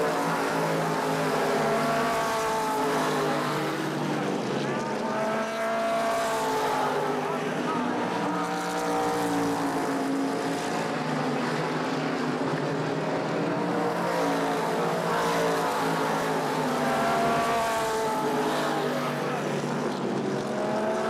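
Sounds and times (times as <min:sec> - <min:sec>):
stock car engines racing: 0:00.0 - 0:21.0.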